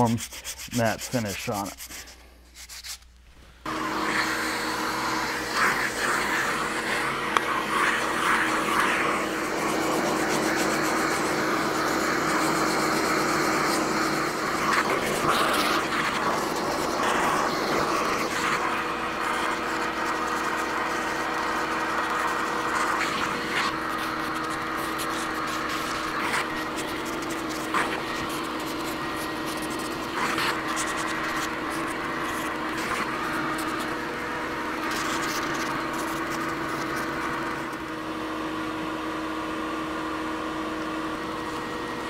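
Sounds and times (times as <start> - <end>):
hand sanding strokes: 0.0 - 37.6.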